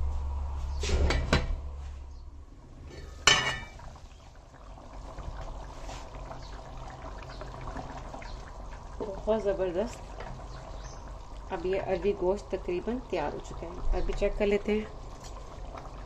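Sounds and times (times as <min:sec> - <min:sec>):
curry simmering: 0:02.6 - 0:16.0.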